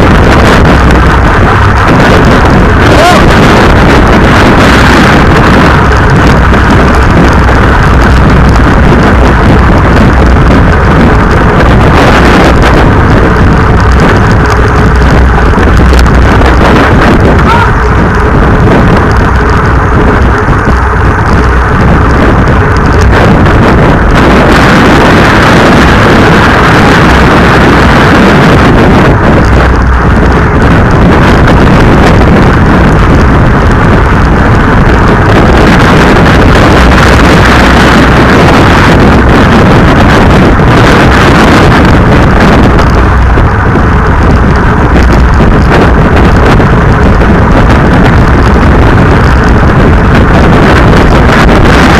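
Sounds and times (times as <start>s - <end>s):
road and tyre hum: 0.0s - 51.9s
wind buffeting microphone: 0.0s - 51.9s.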